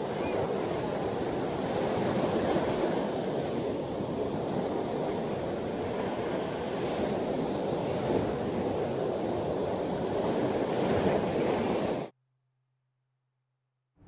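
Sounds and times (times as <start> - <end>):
ocean surf breaking: 0.0 - 12.1
wind: 0.0 - 12.1.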